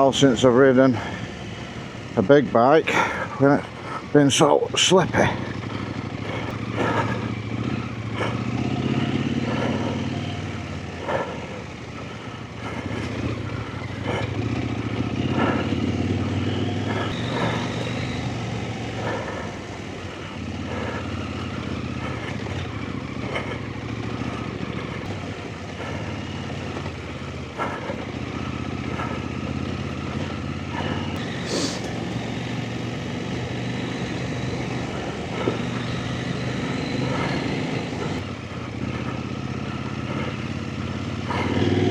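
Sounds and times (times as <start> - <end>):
motorcycle engine at low revs: 0.0 - 41.9.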